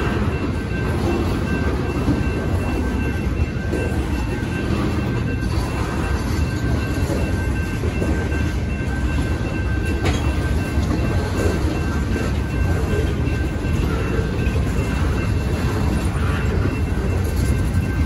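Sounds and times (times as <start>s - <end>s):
crossing warning bell ringing: 0.0s - 18.0s
freight train wheels rattling: 0.0s - 18.0s.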